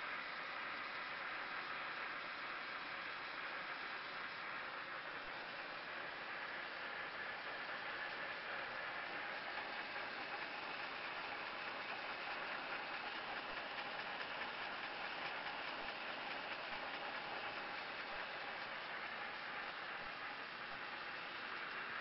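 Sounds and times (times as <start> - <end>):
filter-making machine running: 0.0 - 22.0.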